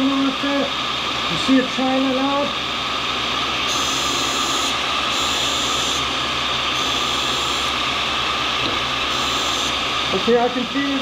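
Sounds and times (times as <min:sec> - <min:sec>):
motor hum: 0:00.0 - 0:11.0.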